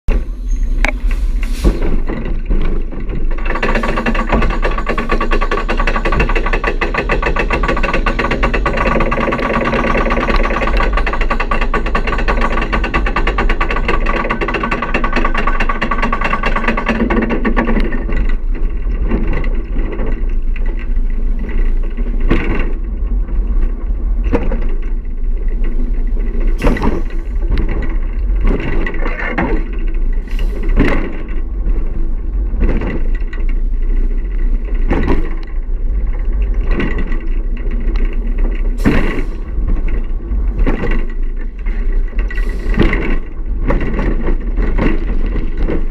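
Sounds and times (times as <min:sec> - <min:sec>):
roller coaster on track: 0:00.1 - 0:45.9.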